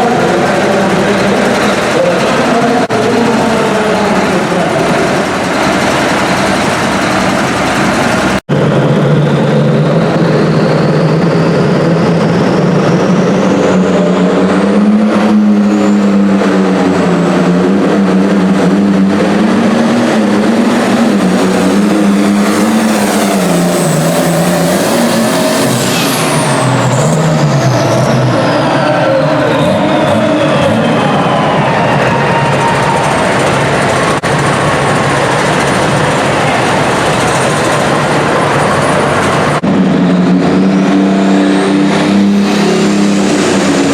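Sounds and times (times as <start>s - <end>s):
tractor engine running under load: 0.0s - 28.3s, 32.0s - 43.9s.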